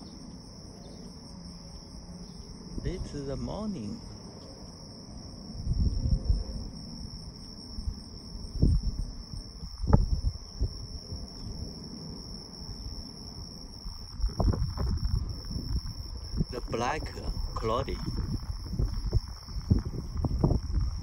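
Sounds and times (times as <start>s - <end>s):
crickets chirping: 0.0s - 21.0s
wind rumble on microphone: 0.0s - 21.0s.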